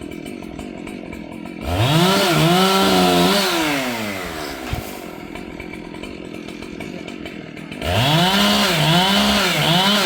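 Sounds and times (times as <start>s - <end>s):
chainsaw idling and revving: 0.0s - 10.0s.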